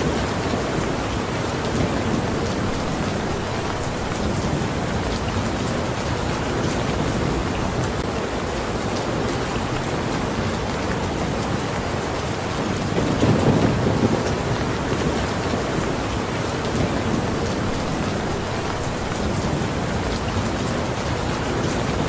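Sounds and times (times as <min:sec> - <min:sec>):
heavy rainfall: 0:00.0 - 0:22.0
raindrops ticking close by: 0:00.0 - 0:22.0.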